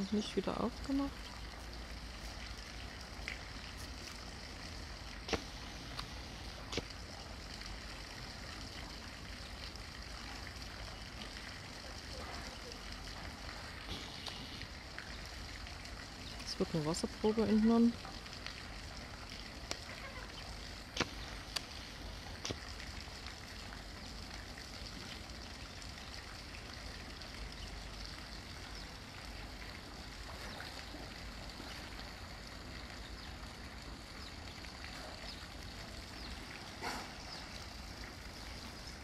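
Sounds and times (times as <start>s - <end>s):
faint rushing water: 0.0s - 39.0s.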